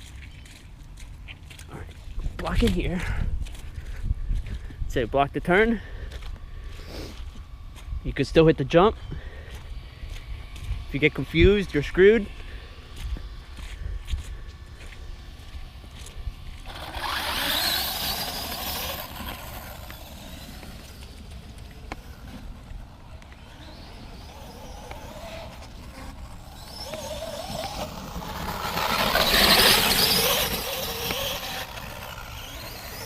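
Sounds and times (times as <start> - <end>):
rc truck motor whining: 6.2 - 33.0.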